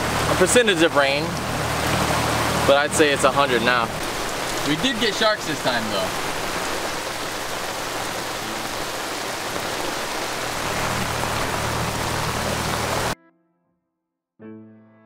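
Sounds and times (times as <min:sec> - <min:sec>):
heavy rain on water: 0:00.0 - 0:13.2.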